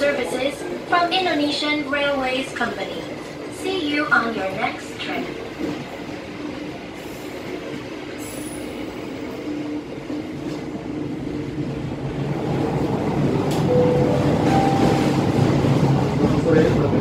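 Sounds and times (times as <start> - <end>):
train wheel and rail rumble: 0.0 - 17.0.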